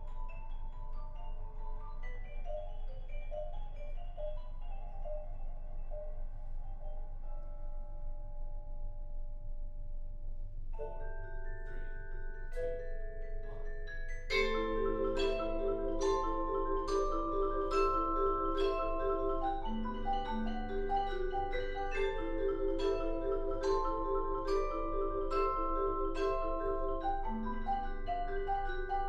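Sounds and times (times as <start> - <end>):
vibraphones and marimbas playing: 0.0 - 29.0.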